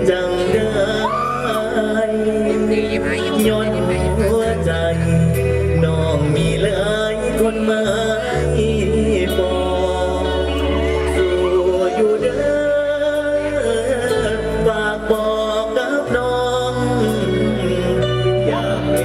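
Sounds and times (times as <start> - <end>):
band music: 0.0 - 19.0
person singing through microphone: 0.0 - 19.0
sustained bass notes: 0.0 - 19.0.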